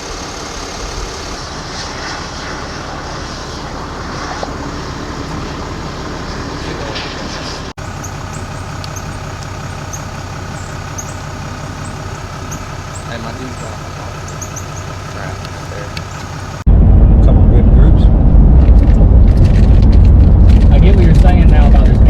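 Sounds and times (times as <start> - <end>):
road and cabin noise: 0.0 - 22.0
vehicle engine running: 0.0 - 22.0.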